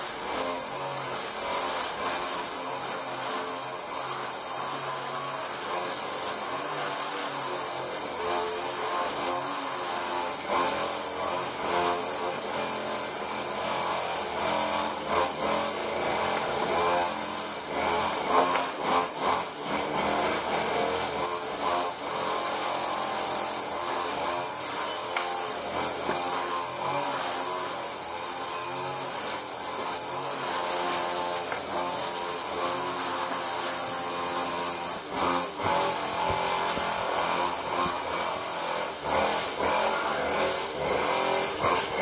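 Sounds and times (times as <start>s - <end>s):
power tool whining: 0.0s - 42.0s.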